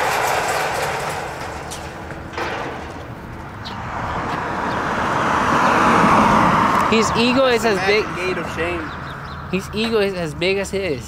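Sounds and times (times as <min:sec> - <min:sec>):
car driving by: 0:00.0 - 0:09.4.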